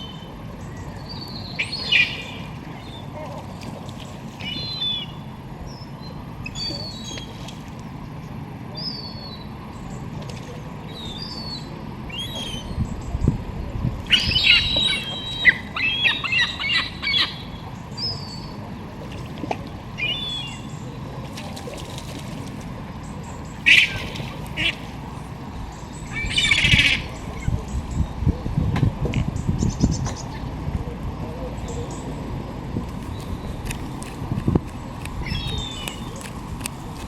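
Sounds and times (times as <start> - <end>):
birds chirping: 0.0 - 3.8, 4.4 - 13.4, 14.0 - 19.1, 19.7 - 21.3, 22.0 - 28.4, 33.0 - 37.0
low background rumble: 0.0 - 37.0.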